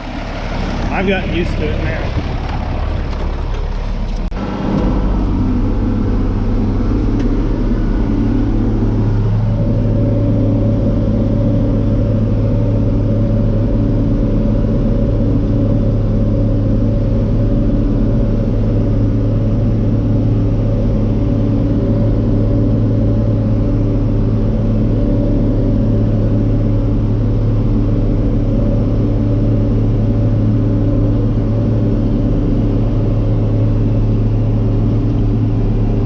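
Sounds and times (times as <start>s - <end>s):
tractor engine running under load: 0.0s - 36.0s.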